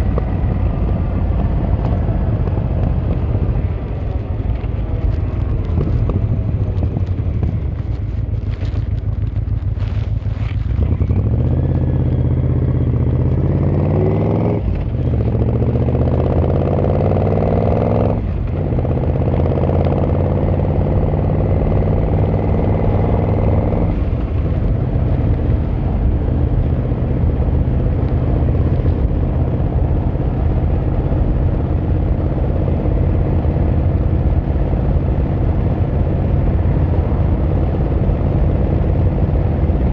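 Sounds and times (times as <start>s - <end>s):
motorcycle engine and exhaust: 0.0s - 39.9s
road and wind noise: 0.0s - 39.9s.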